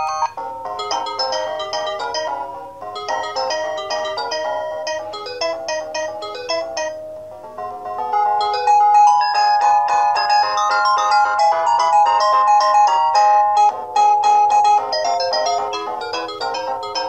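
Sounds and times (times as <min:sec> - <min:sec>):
mobile phone ringtone melody: 0:00.0 - 0:17.0.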